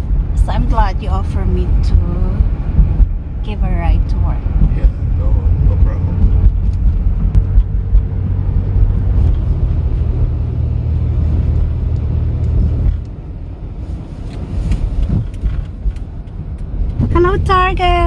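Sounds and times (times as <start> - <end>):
car interior road and engine noise: 0.0 - 18.0.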